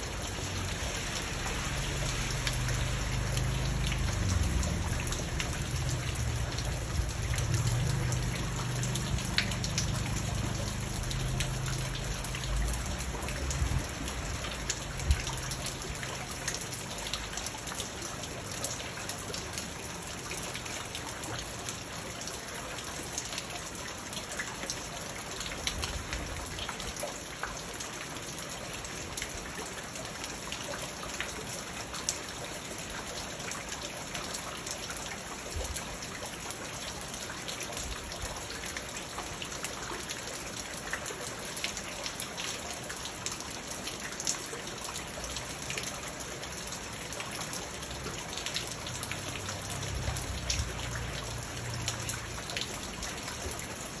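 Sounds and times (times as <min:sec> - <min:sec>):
rain falling on pond and stones: 0:00.0 - 0:54.0.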